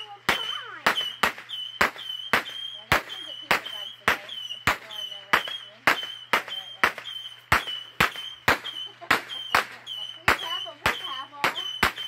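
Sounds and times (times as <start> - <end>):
fireworks firing sharp reports: 0.0 - 12.0.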